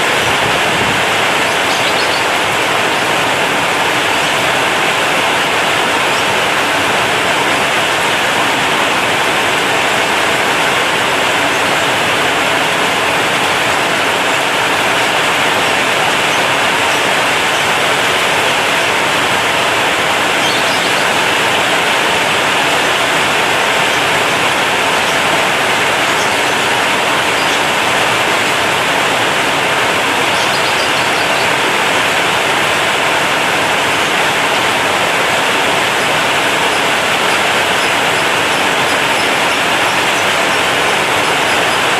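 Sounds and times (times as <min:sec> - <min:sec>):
heavy rain on a metal roof: 0:00.0 - 0:41.9.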